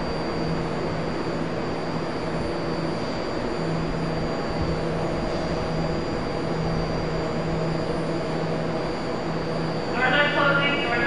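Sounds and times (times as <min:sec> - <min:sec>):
train equipment humming: 0:00.0 - 0:11.0.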